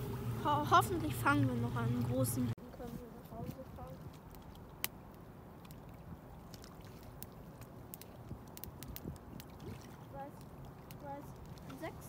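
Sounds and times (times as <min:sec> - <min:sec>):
river water: 0:00.0 - 0:12.0.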